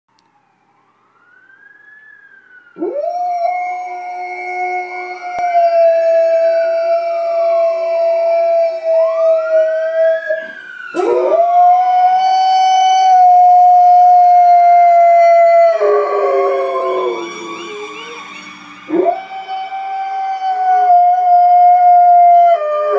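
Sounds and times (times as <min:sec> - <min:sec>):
fire engine sirens wailing: 0:00.2 - 0:22.9
dog howling: 0:02.8 - 0:10.4, 0:11.0 - 0:18.2, 0:18.9 - 0:22.9.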